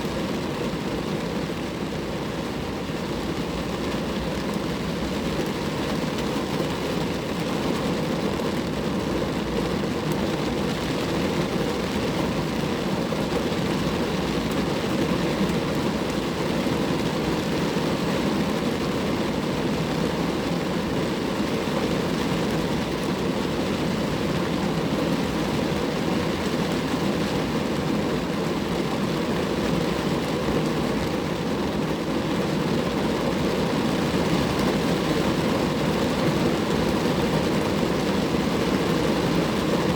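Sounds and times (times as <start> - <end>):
rain falling on a car: 0.0 - 39.9.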